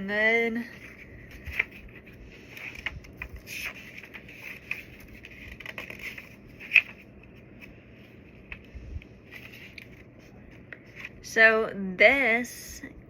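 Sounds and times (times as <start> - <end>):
packaging rustling and scraping: 0.7 - 11.2.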